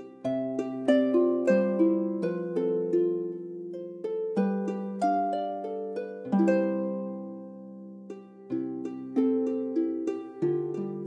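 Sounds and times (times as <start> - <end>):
slow melody of plucked notes: 0.0 - 11.0.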